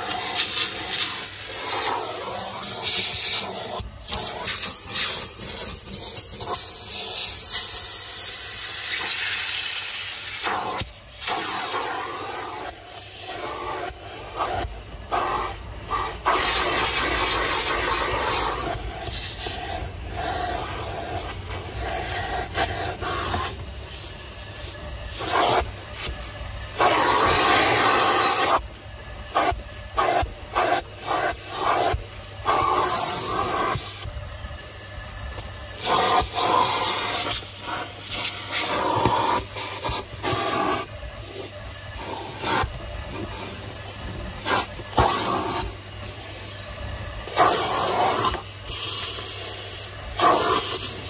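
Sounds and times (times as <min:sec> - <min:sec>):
air hissing through nozzle: 0:00.0 - 0:51.0
vacuum cleaner running: 0:00.0 - 0:51.0.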